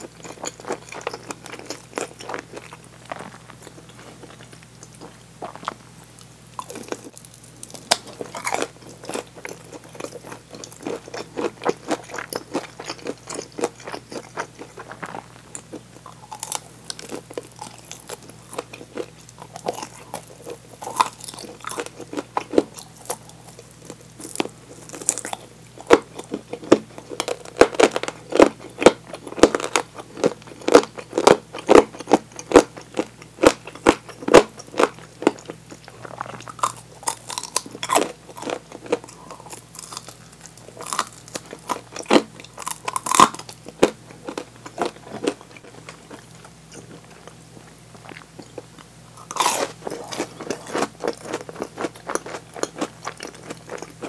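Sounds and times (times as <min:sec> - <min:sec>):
crunching bites of fried chicken: 0:06.6 - 0:54.0.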